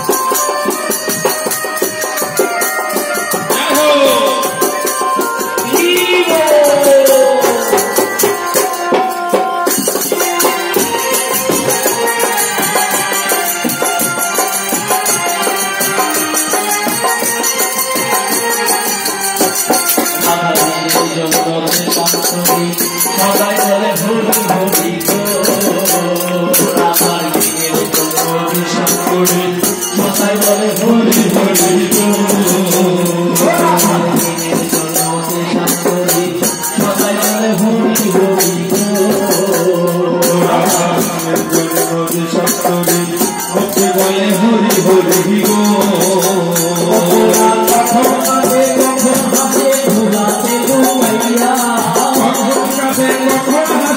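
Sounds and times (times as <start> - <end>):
hand drum: 0.0 - 53.9
group devotional singing: 3.0 - 53.9.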